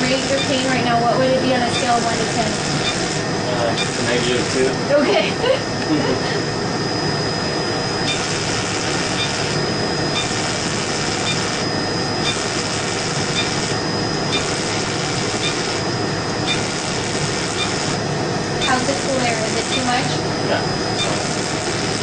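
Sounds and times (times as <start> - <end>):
cold-air cooler blowing: 0.0 - 22.0
laser machinery noise: 0.0 - 22.0.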